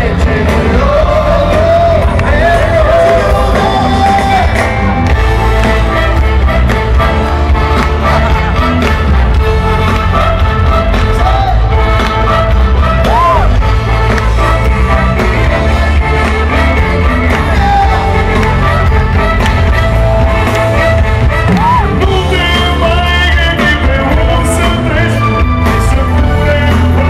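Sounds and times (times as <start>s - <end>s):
loud music with singing and bass: 0.0s - 27.0s.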